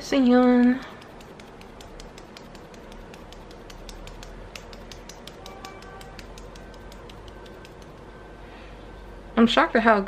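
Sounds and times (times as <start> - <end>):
fingertips tapping face: 0.0 - 8.2.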